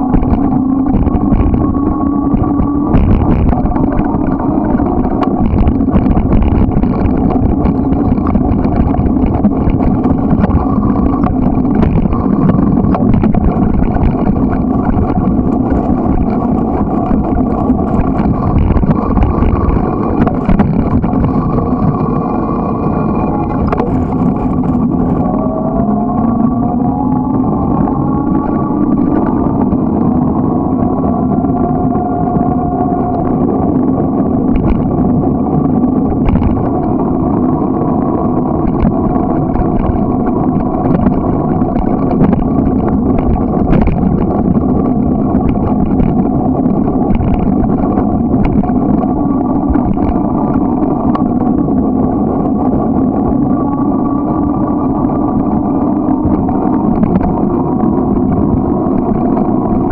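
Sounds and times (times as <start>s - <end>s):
bike rolling on asphalt: 0.0s - 59.9s.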